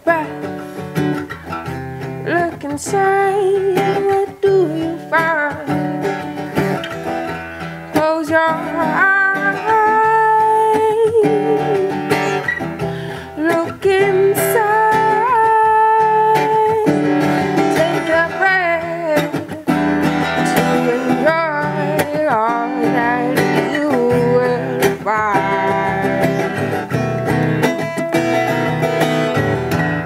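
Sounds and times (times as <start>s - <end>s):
strummed acoustic guitar: 0.0s - 30.0s
woman singing: 0.0s - 30.0s.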